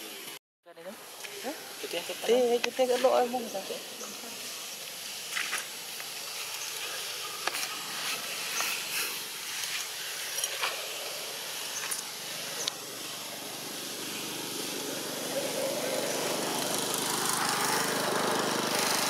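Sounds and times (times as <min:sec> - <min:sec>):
high outdoor hiss: 0:00.0 - 0:19.0.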